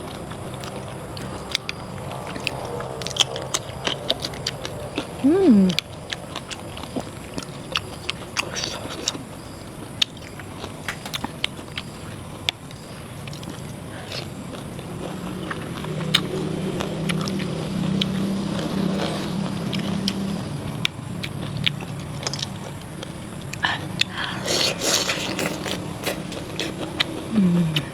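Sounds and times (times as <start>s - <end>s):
low rumbling hum: 0.0s - 8.0s, 11.4s - 27.9s
chewing clicks: 0.0s - 27.9s.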